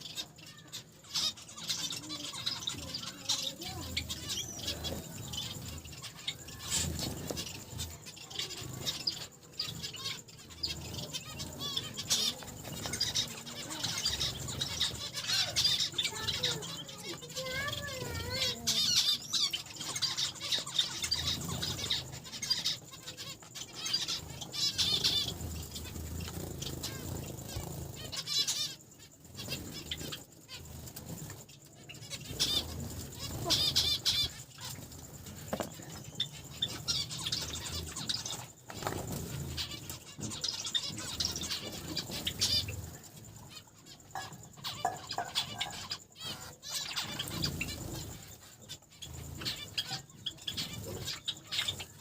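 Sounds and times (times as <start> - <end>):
finches chirping and calling: 0.0 - 52.0
wings flapping and fluttering: 0.0 - 52.0.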